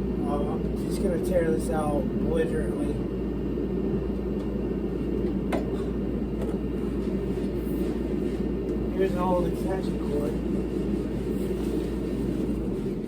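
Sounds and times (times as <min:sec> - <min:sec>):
heater running: 0:00.0 - 0:13.0.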